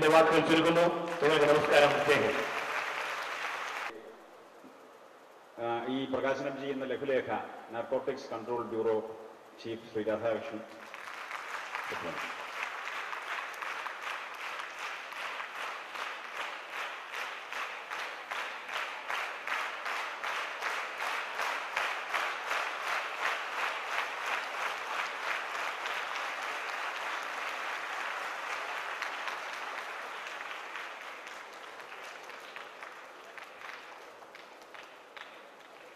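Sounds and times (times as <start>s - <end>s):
audience applauding: 0.0s - 4.0s, 10.8s - 35.9s.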